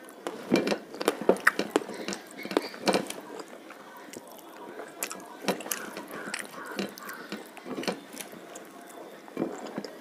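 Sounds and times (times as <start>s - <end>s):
fingers mixing rice on a plate: 0.0s - 10.0s
wet chewing: 0.0s - 10.0s.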